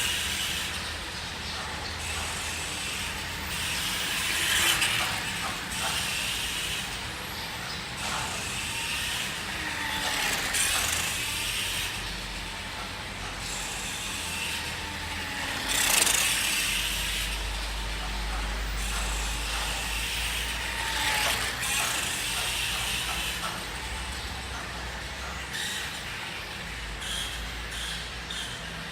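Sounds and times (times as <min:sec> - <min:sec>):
toy motorcycle electric motor: 0:00.0 - 0:28.9.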